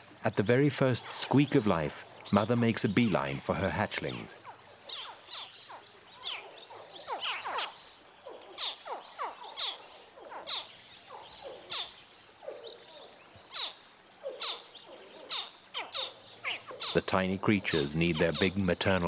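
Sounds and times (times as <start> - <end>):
crocodile hatchlings chirping: 1.0 - 19.0.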